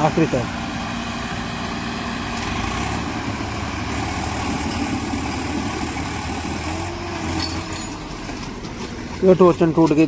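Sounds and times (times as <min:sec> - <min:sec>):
diesel tractor engines running: 0:00.0 - 0:10.0.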